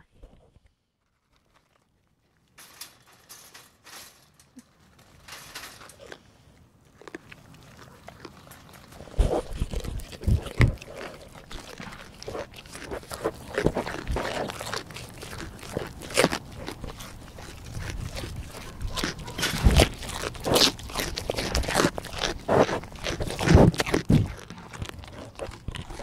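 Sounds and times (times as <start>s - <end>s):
goats crunching and chewing: 0.2s - 26.0s.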